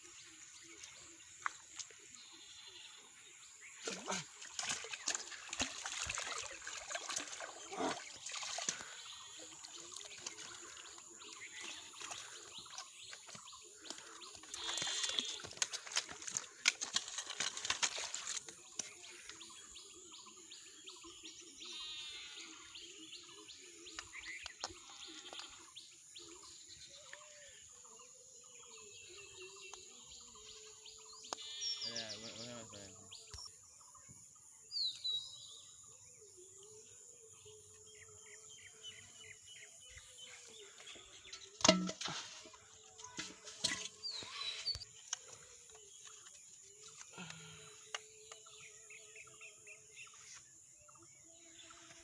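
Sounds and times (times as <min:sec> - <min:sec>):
birds chirping and calling: 0:00.0 - 0:52.0.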